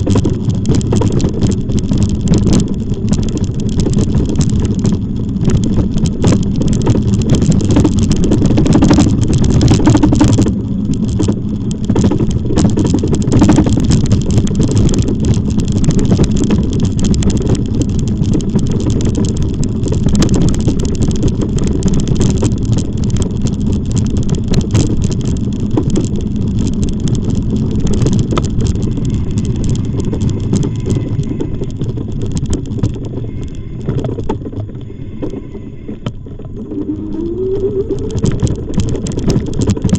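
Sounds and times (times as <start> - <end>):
tyre and road rumble: 0.0 - 39.9
wind buffeting microphone: 0.0 - 39.9.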